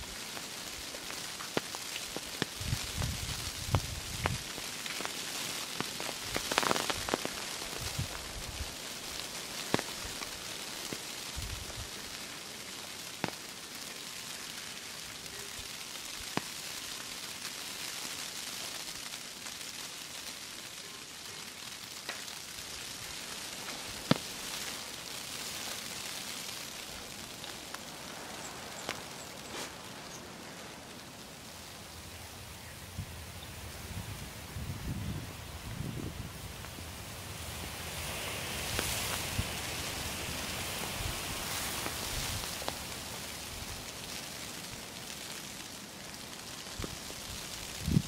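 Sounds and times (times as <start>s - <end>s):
wet snow falling hiss: 0.0s - 48.0s.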